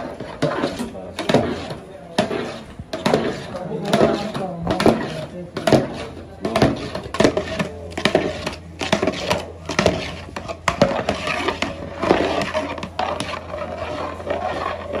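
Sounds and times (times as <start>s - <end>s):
metal ladle scraping pot: 0.0s - 15.0s.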